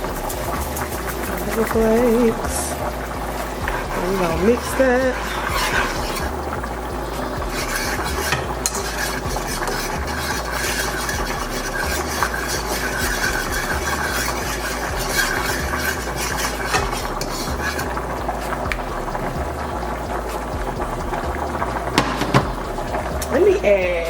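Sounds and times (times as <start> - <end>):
utensil scraping a skillet: 0.0 - 20.5
sauce sizzling: 0.0 - 24.0.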